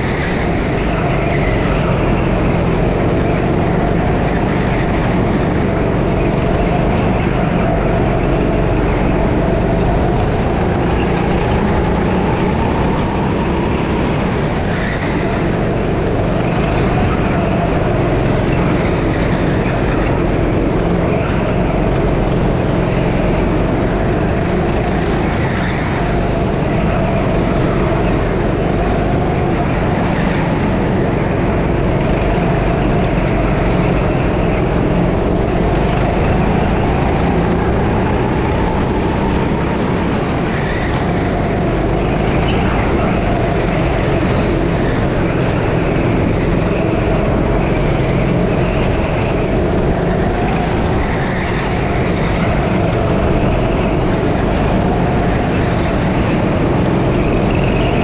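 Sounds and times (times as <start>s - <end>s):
kart engine running hard: 0.0s - 58.0s
steady rushing noise: 0.0s - 58.0s.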